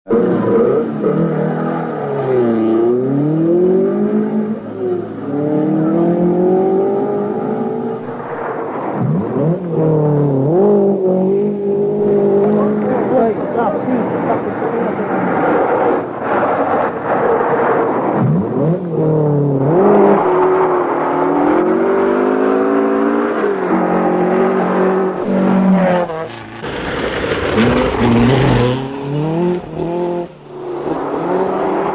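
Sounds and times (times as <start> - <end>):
rally car engine revving: 0.1 - 31.9.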